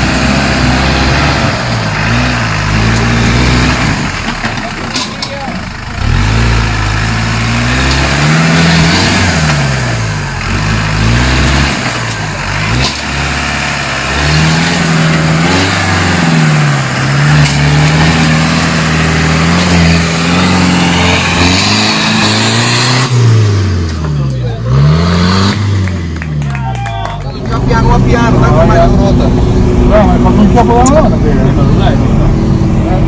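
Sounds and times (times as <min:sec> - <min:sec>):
buggy engine revving hard: 0:00.0 - 0:05.1, 0:05.8 - 0:26.5, 0:27.4 - 0:33.0.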